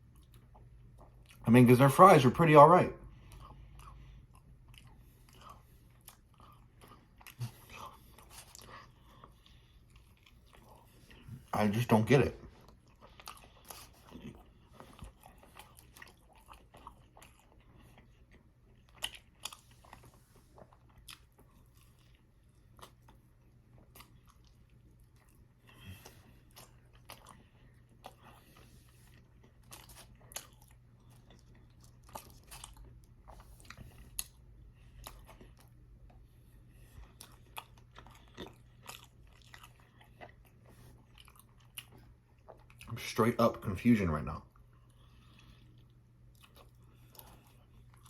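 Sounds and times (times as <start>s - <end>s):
person chewing food: 0.0s - 1.4s, 3.0s - 43.1s, 44.5s - 48.0s.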